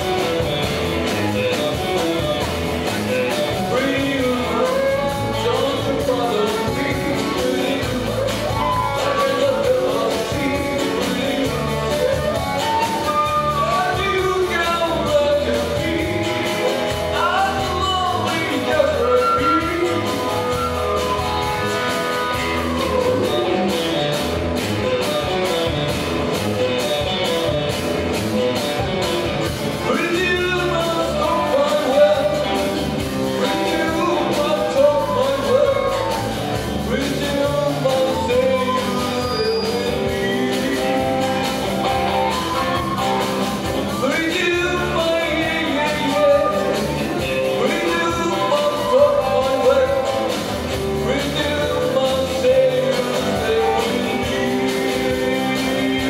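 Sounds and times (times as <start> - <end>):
man singing: 0.0 - 24.3, 29.7 - 56.0
rock band playing: 0.0 - 56.0.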